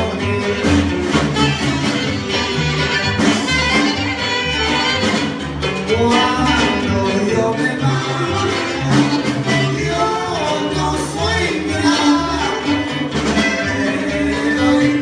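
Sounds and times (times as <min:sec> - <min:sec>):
bass beat: 0:00.0 - 0:15.0
live band playing: 0:00.0 - 0:15.0.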